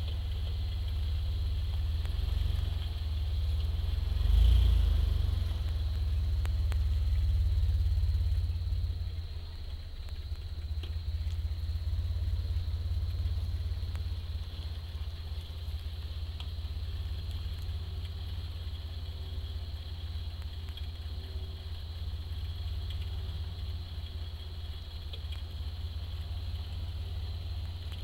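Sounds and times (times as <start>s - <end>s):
truck engine low rumble: 0.0s - 28.0s.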